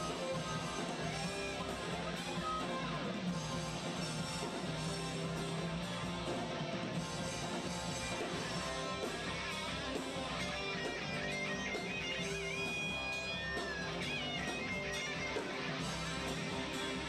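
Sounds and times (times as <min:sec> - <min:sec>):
lead guitar bent notes: 0:00.0 - 0:17.0
rock band playing: 0:00.0 - 0:17.0
strummed electric guitars: 0:00.0 - 0:17.0.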